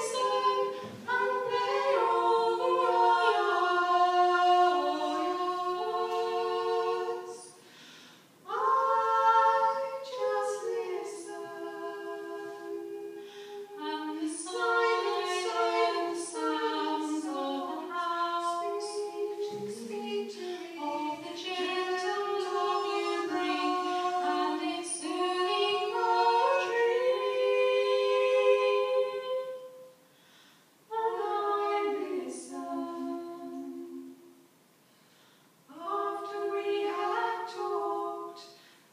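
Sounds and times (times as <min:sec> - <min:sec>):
two women singing in harmony: 0:00.0 - 0:30.0, 0:30.9 - 0:34.4, 0:35.7 - 0:38.8.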